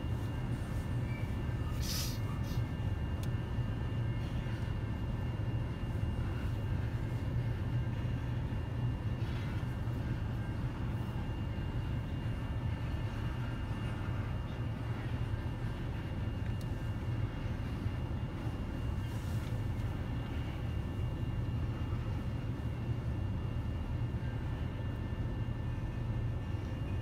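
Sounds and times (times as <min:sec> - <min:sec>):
muffled freight train rumble: 0:00.0 - 0:27.0.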